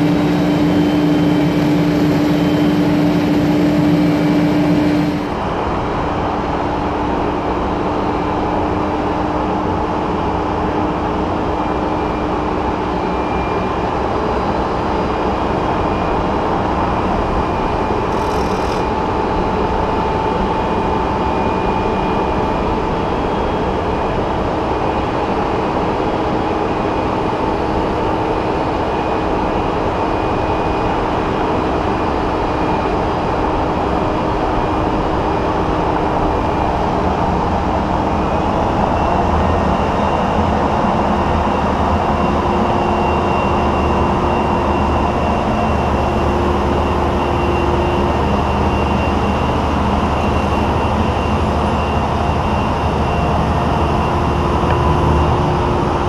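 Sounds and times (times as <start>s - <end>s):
crane engine and hydraulics drone: 0.0s - 56.0s.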